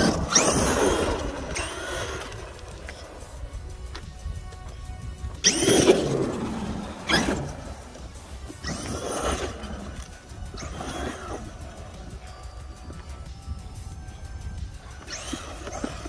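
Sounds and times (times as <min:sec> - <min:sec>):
background music: 0:00.0 - 0:16.0
electric motor whining: 0:00.0 - 0:16.0.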